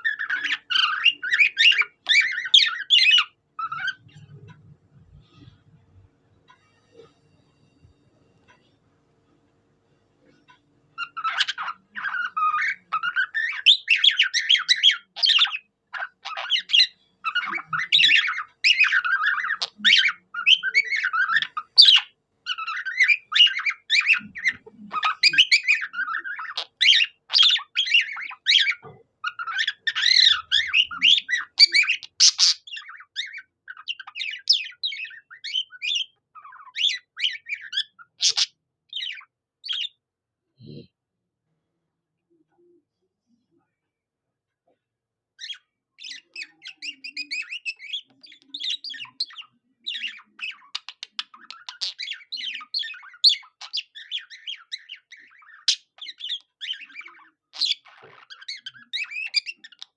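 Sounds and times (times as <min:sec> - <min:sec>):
budgerigar warbling song: 0:00.0 - 0:04.5, 0:11.0 - 0:40.0, 0:45.4 - 0:59.9.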